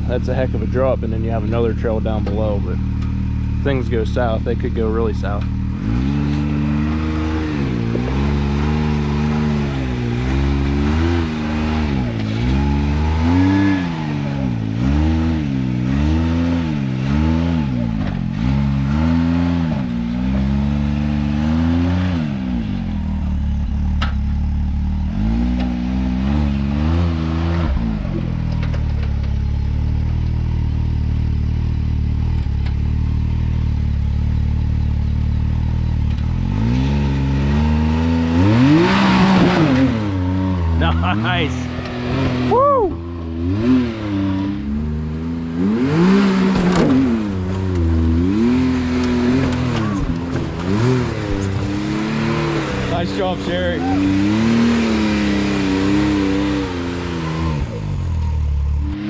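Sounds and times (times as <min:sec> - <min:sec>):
engine revving: 0:00.0 - 0:59.0.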